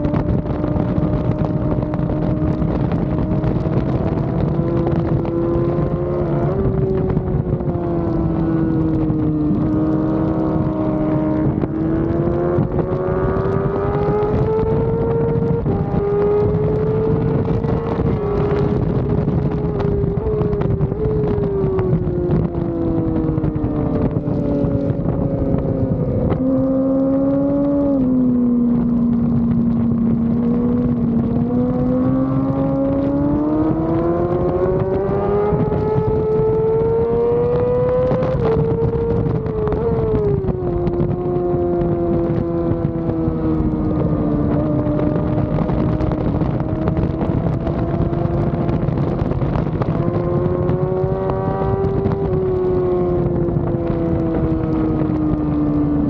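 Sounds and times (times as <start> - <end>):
motorcycle engine revving: 0.0 - 56.0
wind buffeting microphone: 0.0 - 56.0.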